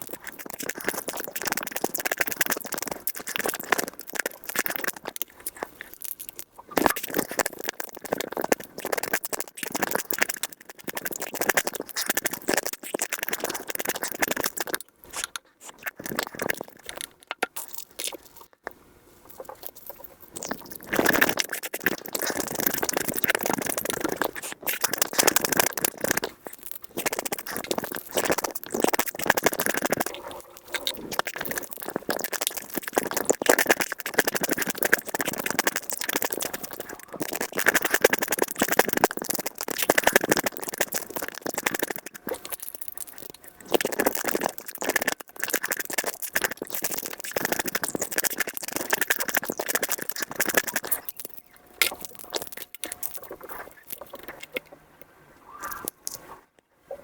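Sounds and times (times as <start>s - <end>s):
chewing and crunching: 0.0s - 54.8s, 55.5s - 57.0s
wet mouth noises: 0.0s - 54.8s, 55.5s - 57.0s.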